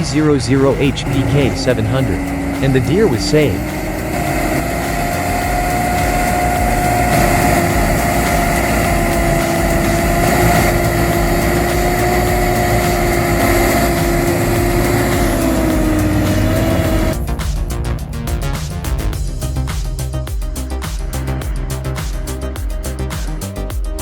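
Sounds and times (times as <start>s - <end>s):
engine running with whine: 0.0s - 24.0s
music: 0.0s - 24.0s.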